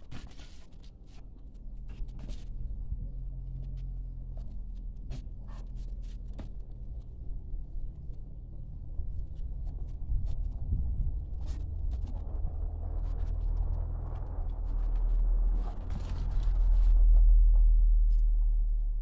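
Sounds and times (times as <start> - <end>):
low rumble: 1.6 - 19.0.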